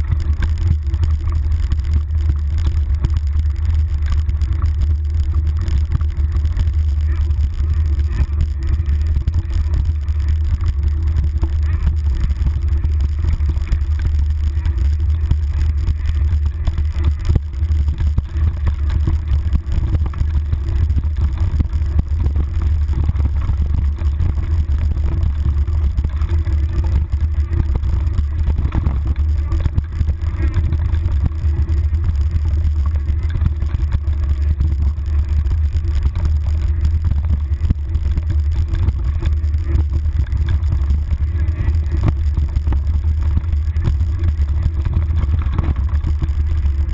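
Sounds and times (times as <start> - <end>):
bike rattling and knocking: 0.0 - 46.9
low wind rumble: 0.0 - 46.9.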